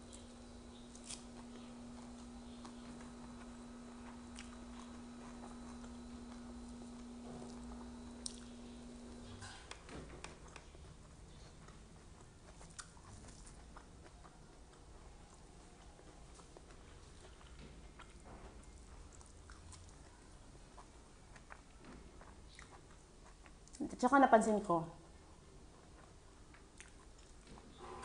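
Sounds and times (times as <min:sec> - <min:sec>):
person chewing raw vegetables: 0:00.0 - 0:23.8, 0:25.3 - 0:27.8
steady low hum: 0:00.0 - 0:28.0.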